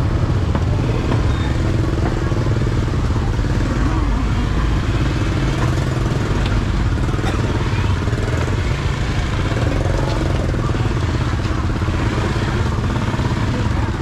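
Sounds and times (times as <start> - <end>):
small motorbike engine running: 0.0 - 14.0.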